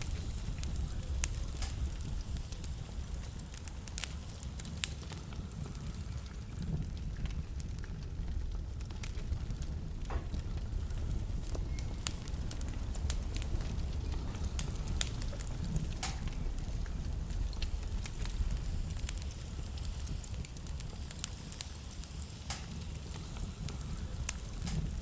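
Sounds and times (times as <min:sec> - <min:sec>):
burning logs popping and crackling: 0:00.0 - 0:25.0
low rumble of fire flames: 0:00.0 - 0:25.0.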